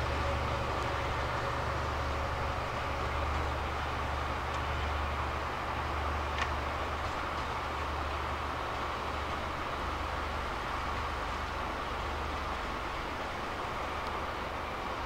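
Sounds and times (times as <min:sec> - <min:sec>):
train running hum: 0:00.0 - 0:15.0.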